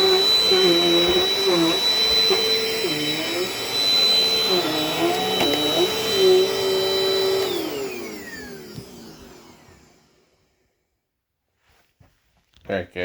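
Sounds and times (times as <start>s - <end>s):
vacuum cleaner motor whine: 0.0s - 10.6s.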